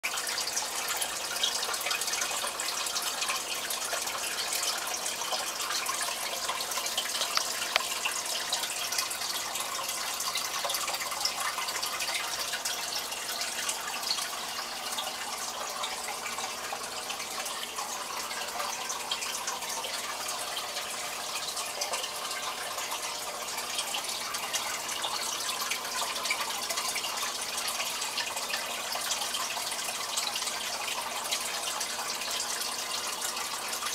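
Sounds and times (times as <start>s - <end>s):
aquarium water splashing and bubbling: 0.0s - 33.9s.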